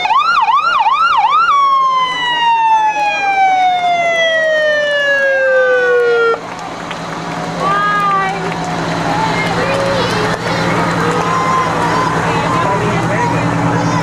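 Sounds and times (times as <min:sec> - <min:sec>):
fire engine siren: 0:00.0 - 0:14.0.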